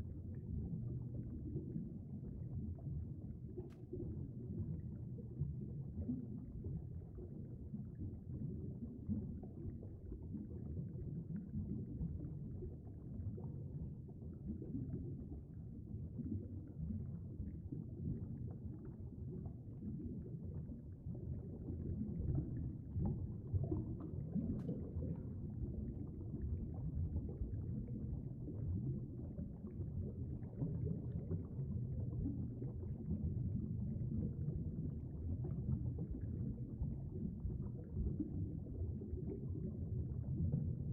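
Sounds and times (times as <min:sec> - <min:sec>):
muffled underwater stream rumble: 0:00.0 - 0:40.9.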